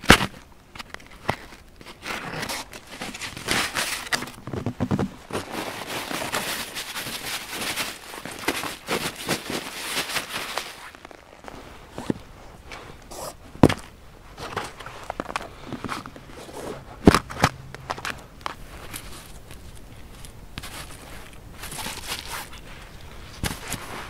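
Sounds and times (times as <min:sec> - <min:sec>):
foam sleeping mat rustling: 0:01.1 - 0:24.0.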